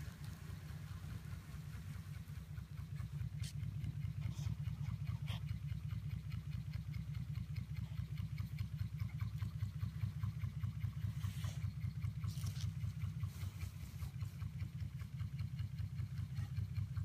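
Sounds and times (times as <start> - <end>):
small engine pulsing hum: 0.0 - 17.0.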